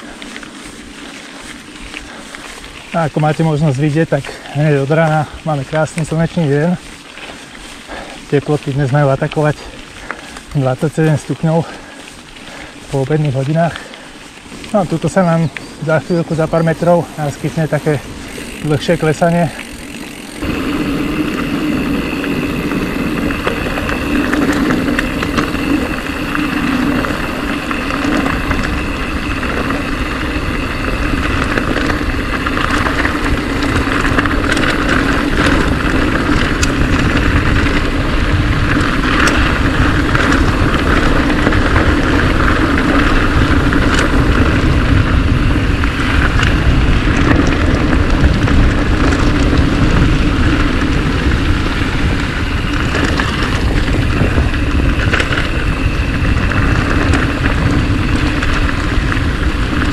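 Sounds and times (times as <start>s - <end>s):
bike knocking and clicking: 0.0s - 59.9s
tyres rolling on trail: 0.0s - 59.9s
wind: 0.0s - 59.9s.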